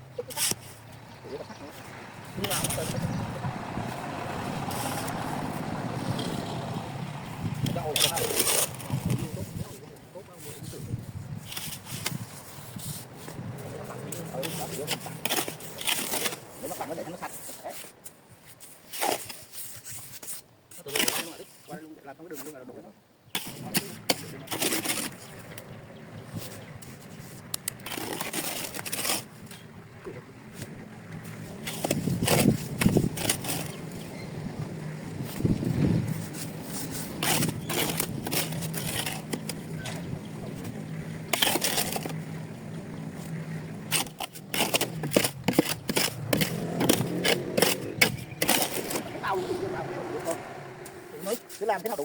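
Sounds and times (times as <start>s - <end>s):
hand tool scraping ground: 0.2s - 0.9s, 1.7s - 6.6s, 7.2s - 22.5s, 23.3s - 29.7s, 30.5s - 52.0s.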